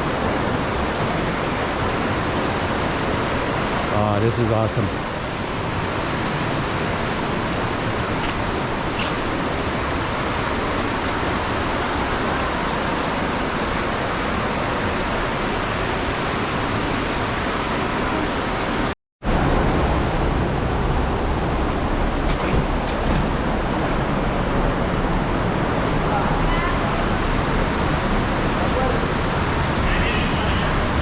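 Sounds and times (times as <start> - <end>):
rushing river water: 0.0 - 31.0.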